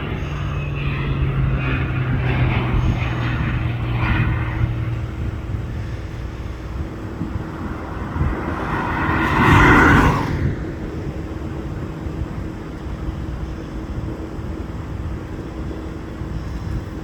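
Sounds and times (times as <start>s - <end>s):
turboprop plane flying: 0.0s - 17.0s.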